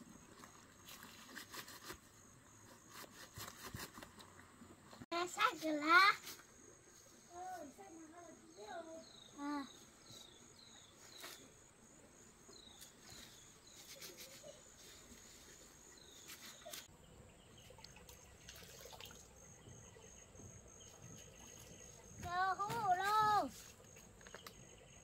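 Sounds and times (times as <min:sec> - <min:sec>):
insect chirping in a steady pulse: 0:01.8 - 0:02.9, 0:05.2 - 0:25.0.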